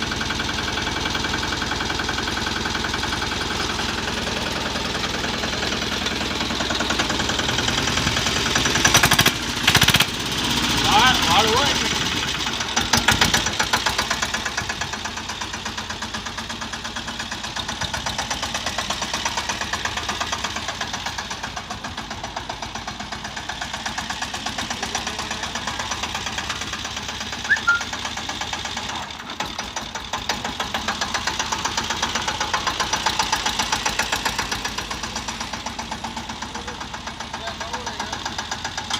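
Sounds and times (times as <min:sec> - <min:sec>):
tractor engine knocking: 0:00.0 - 0:38.9.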